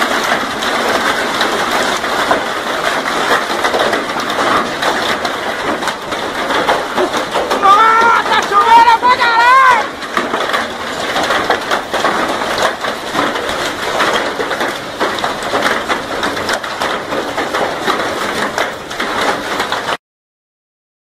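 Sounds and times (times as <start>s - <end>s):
hail and rain on metal roof: 0.0s - 20.0s.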